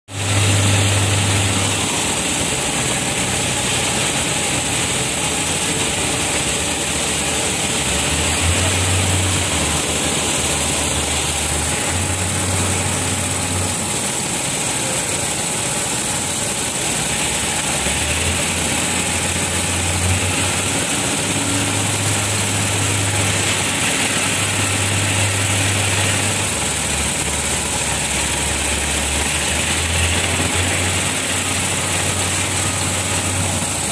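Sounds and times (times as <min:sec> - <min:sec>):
conveyor motor and belt hum: 0:00.1 - 0:33.9.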